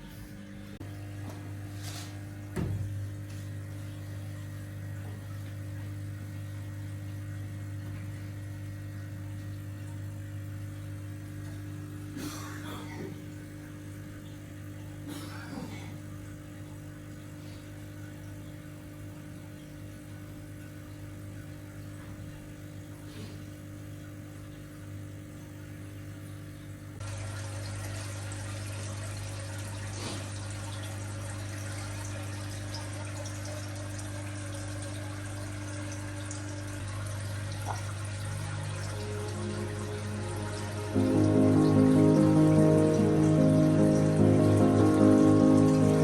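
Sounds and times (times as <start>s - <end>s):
low hum with faint hiss: 0.0s - 46.0s.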